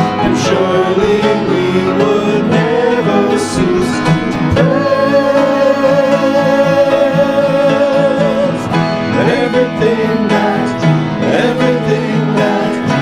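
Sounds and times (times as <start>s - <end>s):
person singing: 0.0s - 13.0s
plucked-string accompaniment: 0.0s - 13.0s
worship band music: 0.0s - 13.0s.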